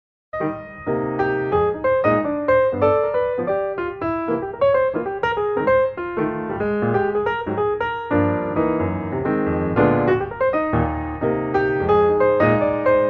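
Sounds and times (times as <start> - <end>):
piano music: 0.4 - 13.0.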